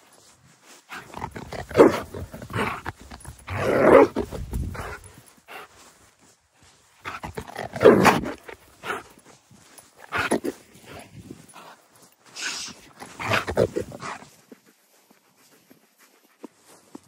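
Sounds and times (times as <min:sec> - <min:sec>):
faint footsteps on grass: 0:00.0 - 0:17.0
dog panting hard: 0:00.9 - 0:05.9, 0:07.1 - 0:09.4, 0:10.0 - 0:17.0.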